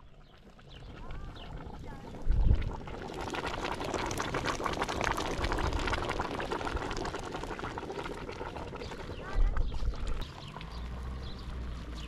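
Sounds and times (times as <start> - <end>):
pot bubbling at the boil: 0.0 - 12.0.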